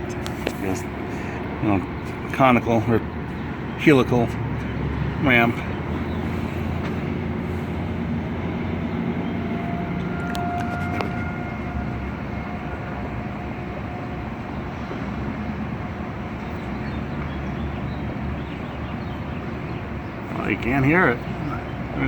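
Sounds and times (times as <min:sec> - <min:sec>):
faint distant warning siren: 0:00.0 - 0:22.0
rumble of city traffic: 0:00.0 - 0:22.0.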